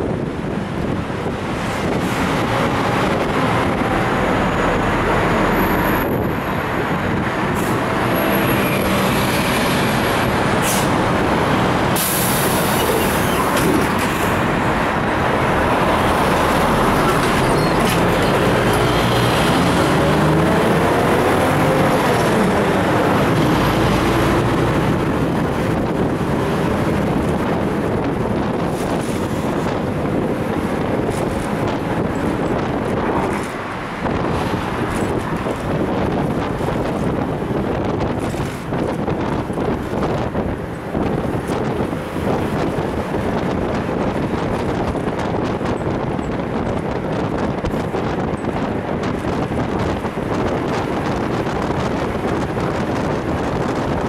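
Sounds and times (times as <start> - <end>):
bus engine revving: 0.0 - 54.0
passing traffic: 0.0 - 54.0
road and wind noise: 0.0 - 54.0.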